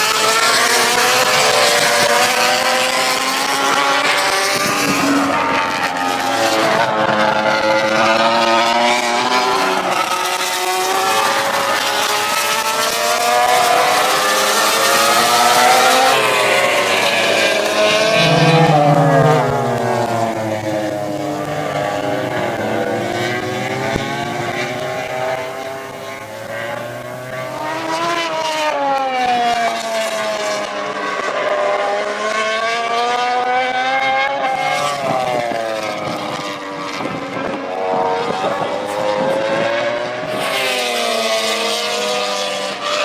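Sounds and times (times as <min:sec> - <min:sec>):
racing motorcycles passing: 0:00.0 - 0:43.0.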